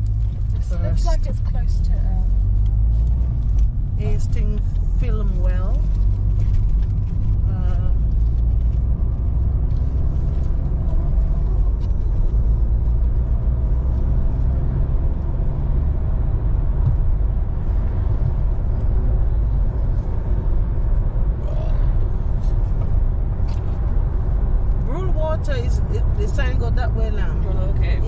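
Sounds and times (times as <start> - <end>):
car road rumble and engine: 0.0 - 28.0.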